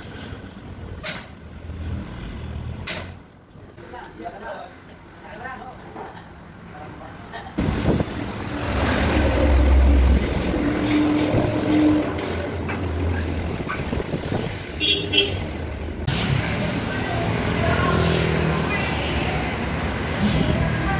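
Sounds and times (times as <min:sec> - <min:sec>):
vehicles passing: 0:00.0 - 0:20.9.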